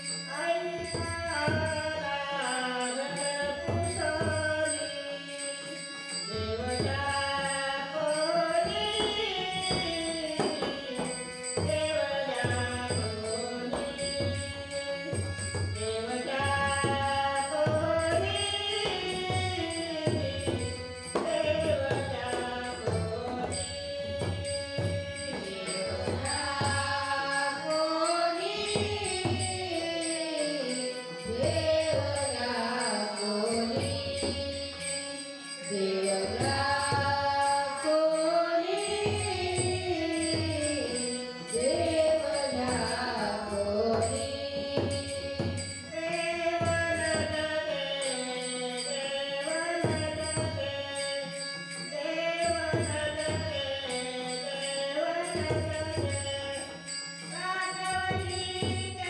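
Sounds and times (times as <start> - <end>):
small hand cymbals: 0.0 - 59.0
woman singing devotional song: 0.0 - 59.0.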